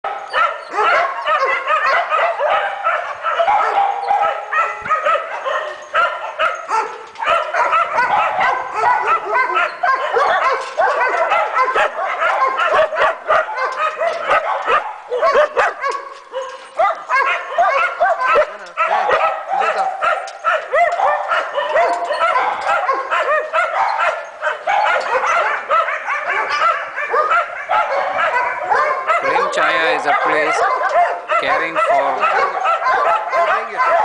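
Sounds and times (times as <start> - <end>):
dogs barking and yipping: 0.0 - 34.0.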